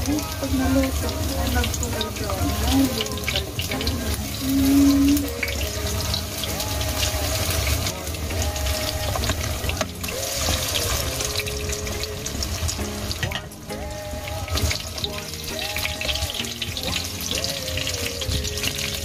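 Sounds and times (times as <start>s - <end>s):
fritters sizzling in oil: 0.0s - 19.0s
spatula turning food in pot: 0.0s - 19.0s.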